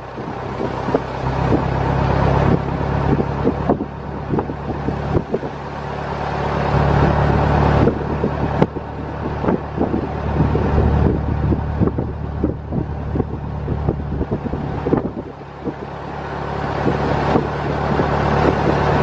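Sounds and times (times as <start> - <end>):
car body rattles: 0.0 - 19.0
car engine under load: 0.0 - 19.0
road noise: 0.0 - 19.0
wind: 0.0 - 19.0.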